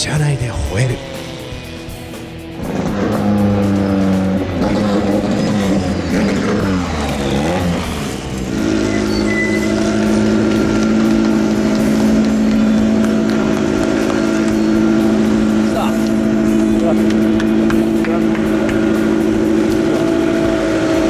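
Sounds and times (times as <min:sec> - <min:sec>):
turbocharged car engine revving: 0:00.0 - 0:21.0.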